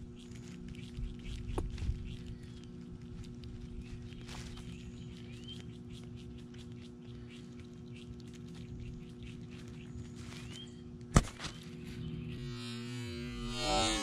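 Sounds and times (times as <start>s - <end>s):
faint ticks and scratches: 0.0s - 14.0s.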